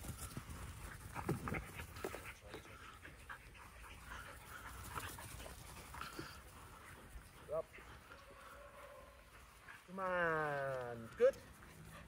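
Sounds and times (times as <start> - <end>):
dogs panting: 0.0 - 10.0, 11.0 - 12.0.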